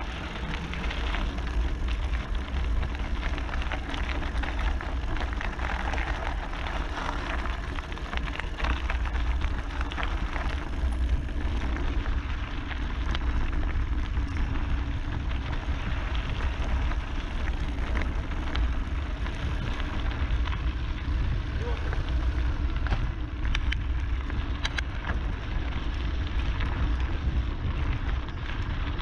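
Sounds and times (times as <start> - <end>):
bike rattling: 0.0 - 29.0
bike tyres crunching on gravel: 0.0 - 29.0
wind rumble on microphone: 0.0 - 29.0.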